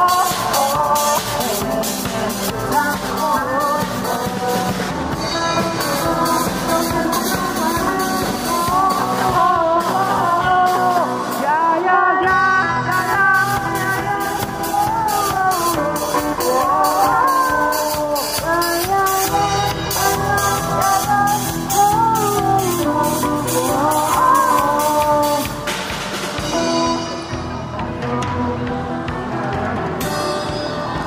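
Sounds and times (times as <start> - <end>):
drum kit: 0.0 - 31.0
person singing into microphone: 0.0 - 31.0.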